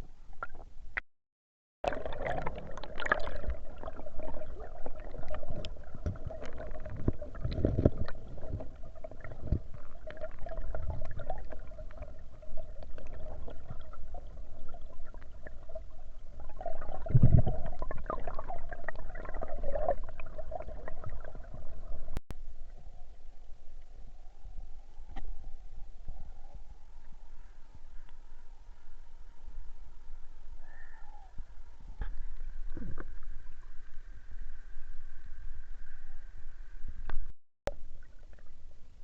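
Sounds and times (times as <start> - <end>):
water gurgling and sloshing: 1.8 - 39.0
faint steady hum: 1.9 - 39.0.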